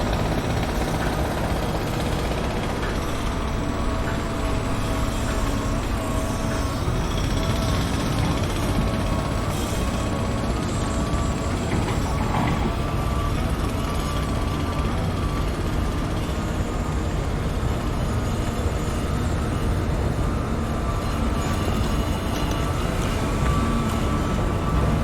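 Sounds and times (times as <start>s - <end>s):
construction machinery engines rumbling: 0.0s - 25.0s.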